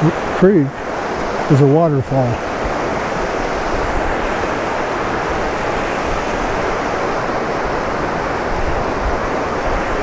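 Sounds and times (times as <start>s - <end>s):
creek rushing: 0.0s - 10.0s.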